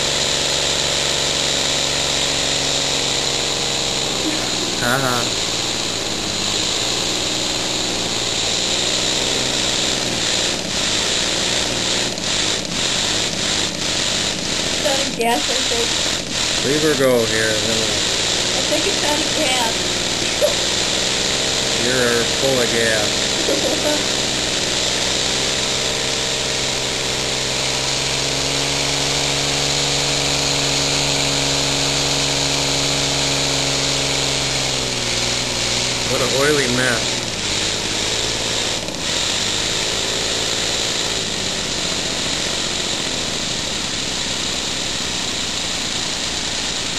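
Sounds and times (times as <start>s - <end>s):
air engine running fast: 0.0s - 46.9s.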